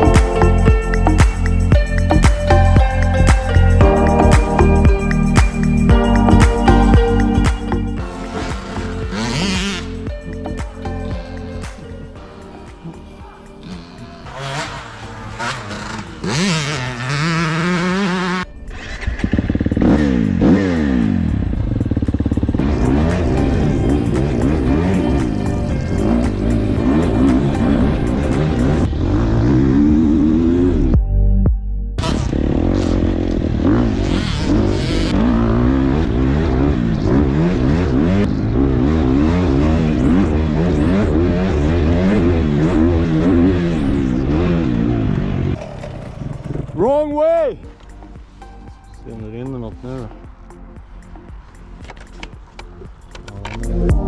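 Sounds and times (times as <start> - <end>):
dirt bike engines revving: 0.0 - 30.9, 32.0 - 54.0
background music: 0.0 - 54.0.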